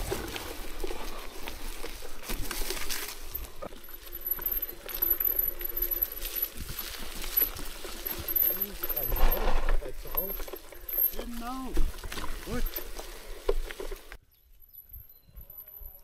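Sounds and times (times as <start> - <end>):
bike rattles and clicks: 0.0 - 14.2
bike tyres on dirt: 0.0 - 16.0.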